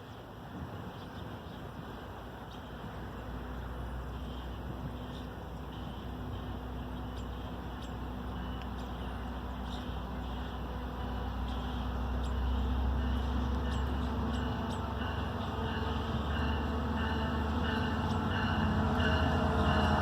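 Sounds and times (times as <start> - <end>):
diesel train rumble: 1.6 - 20.0.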